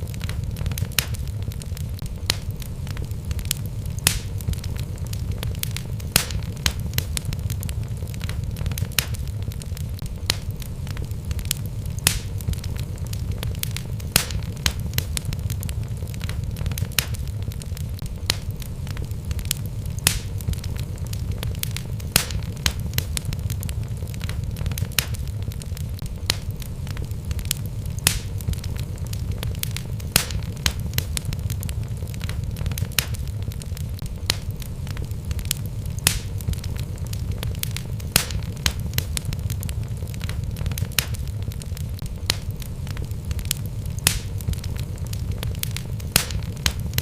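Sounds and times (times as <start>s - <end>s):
logs crackling and popping: 0.0s - 47.0s
low rumble of flames: 0.0s - 47.0s.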